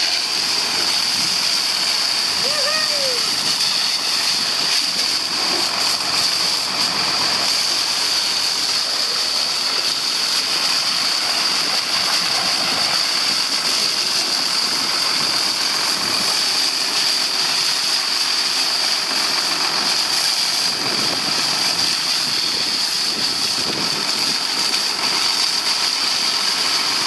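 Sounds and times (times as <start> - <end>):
hose jet spraying and splashing: 0.0 - 27.0.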